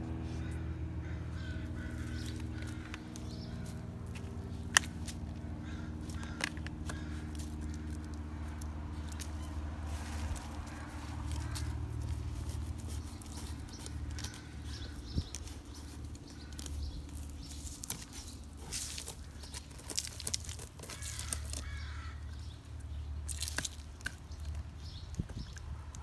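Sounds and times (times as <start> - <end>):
bird calling: 0.0 - 25.6
dog chewing twigs and leaves: 0.0 - 26.0.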